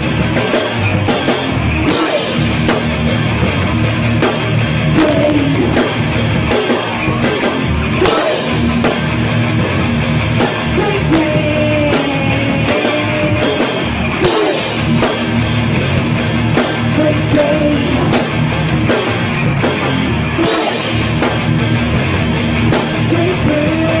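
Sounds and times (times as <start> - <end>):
bass guitar: 0.0 - 24.0
drum kit: 0.0 - 24.0
electric guitars: 0.0 - 24.0.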